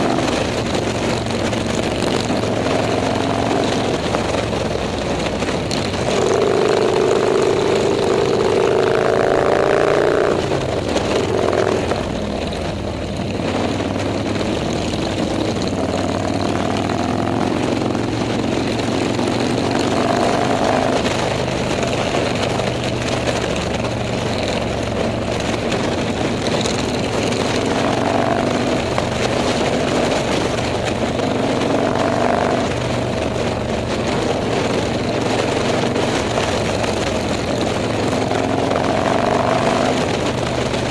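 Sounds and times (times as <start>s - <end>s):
motorcycle engines running: 0.0s - 40.9s
wind and road noise: 0.0s - 40.9s.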